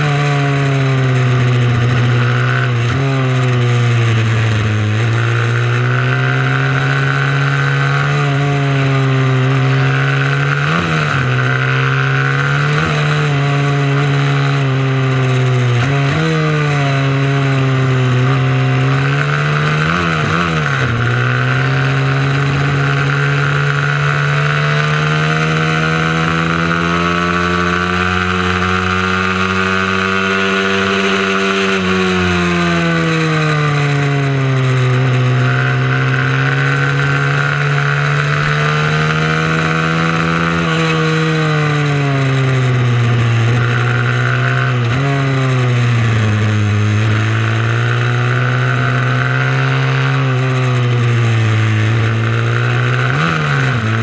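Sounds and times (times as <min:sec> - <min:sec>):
mini moto engine revving: 0:00.0 - 0:54.0.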